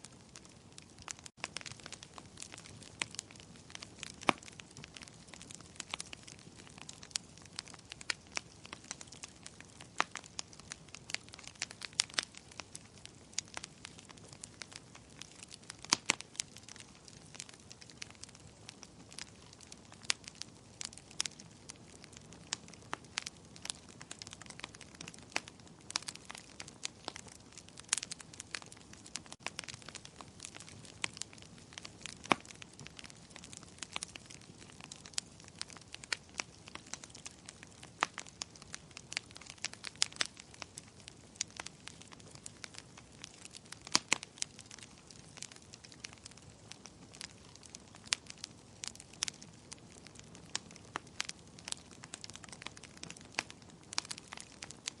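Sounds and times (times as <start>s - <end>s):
fire pops and snaps: 0.0s - 55.0s
wood fire crackling: 0.0s - 55.0s.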